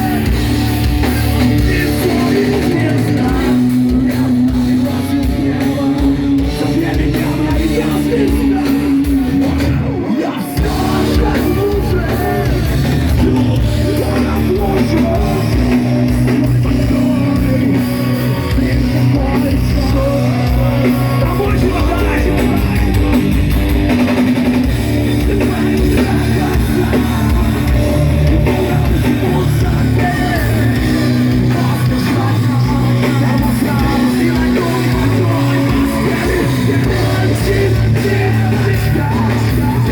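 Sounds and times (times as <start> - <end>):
rock band playing loudly: 0.0 - 39.9.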